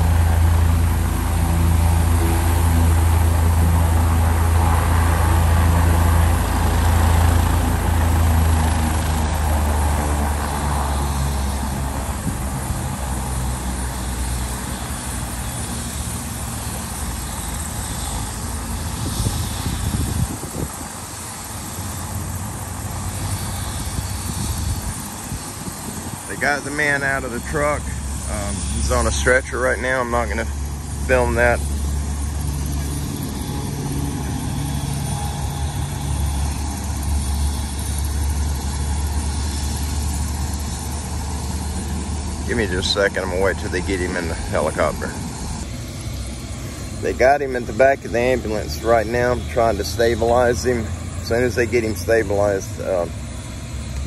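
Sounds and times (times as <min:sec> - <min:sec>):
helicopter idling hum: 0:00.0 - 0:54.0.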